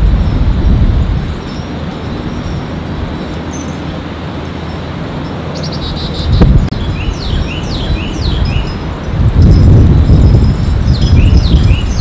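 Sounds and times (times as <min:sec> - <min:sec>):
rushing background noise: 0:00.0 - 0:12.0
songbird singing: 0:01.3 - 0:12.0.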